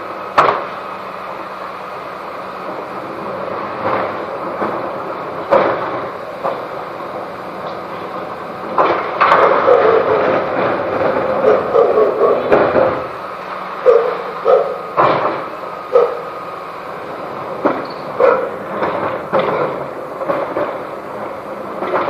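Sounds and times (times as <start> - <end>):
bin lorry engine running: 0.0 - 22.0.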